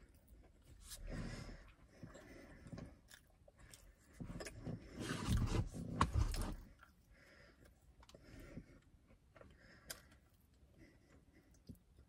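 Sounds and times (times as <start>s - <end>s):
biting and chewing: 0.0s - 12.0s.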